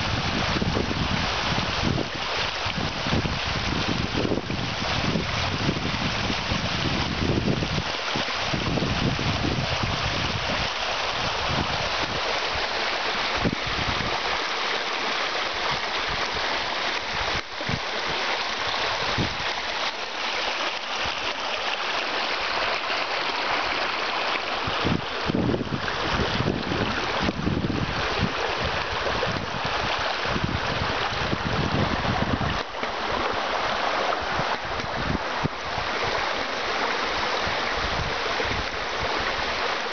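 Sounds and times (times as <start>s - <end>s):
water rushing along a mill race: 0.0s - 39.9s.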